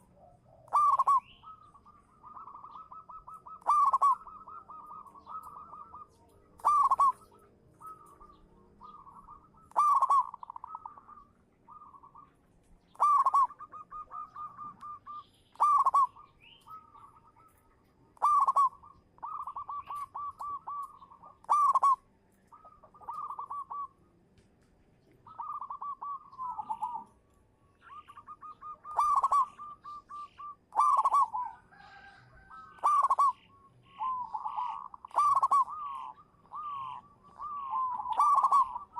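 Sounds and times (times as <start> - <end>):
dove cooing: 0.0 - 24.1, 25.1 - 38.9.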